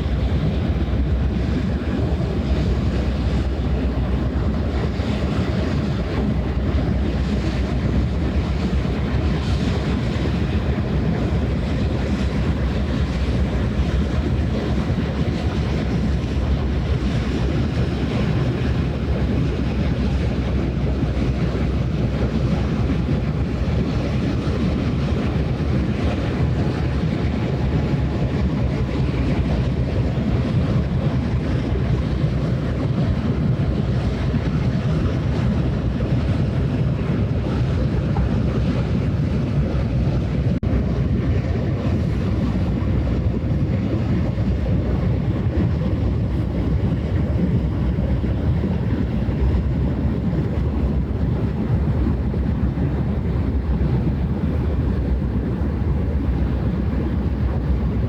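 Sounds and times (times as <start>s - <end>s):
ship engine drone: 0.0s - 58.0s
wind rumble on microphone: 0.0s - 58.0s.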